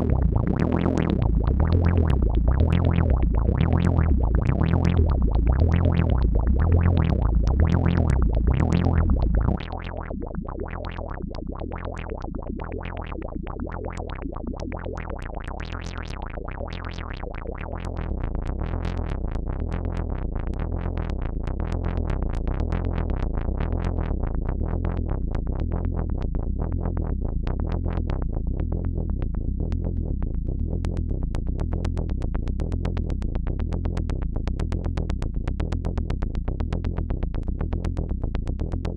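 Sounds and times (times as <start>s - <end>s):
synthesizer pulses over bass: 0.0s - 38.9s.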